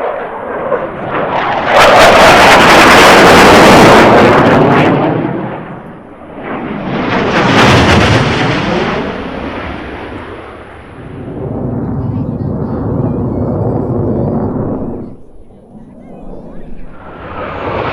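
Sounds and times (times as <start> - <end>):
jets roaring past: 0.0 - 17.9.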